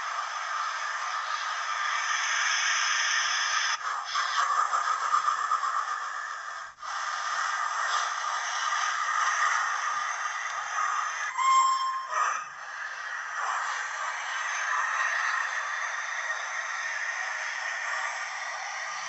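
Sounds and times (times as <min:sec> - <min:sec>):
steam hiss from small speaker: 0:00.0 - 0:19.0.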